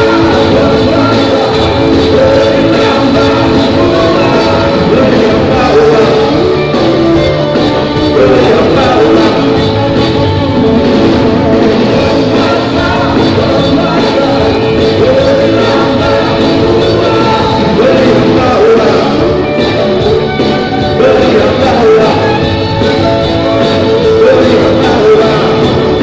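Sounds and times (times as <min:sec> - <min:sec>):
bass guitar: 0:00.0 - 0:26.0
drums: 0:00.0 - 0:26.0
electric guitar: 0:00.0 - 0:26.0
keyboard: 0:00.0 - 0:26.0
person singing lead vocal: 0:00.0 - 0:26.0.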